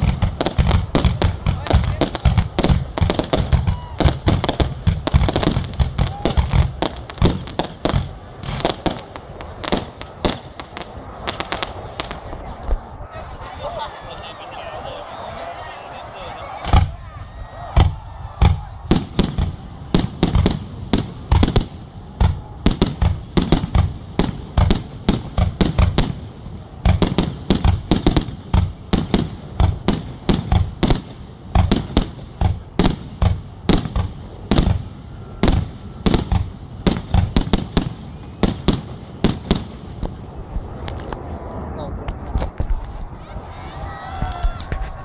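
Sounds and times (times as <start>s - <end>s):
fireworks bangs: 0.0s - 45.0s.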